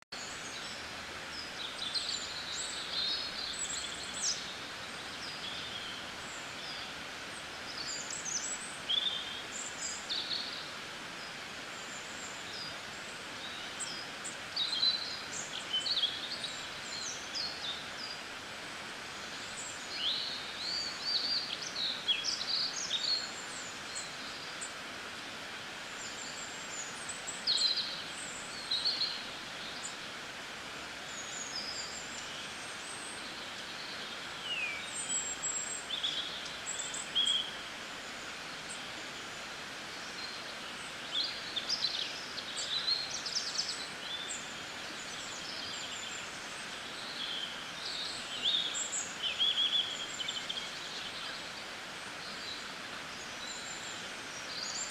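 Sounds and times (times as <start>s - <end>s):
steady hiss: 0.2s - 54.9s.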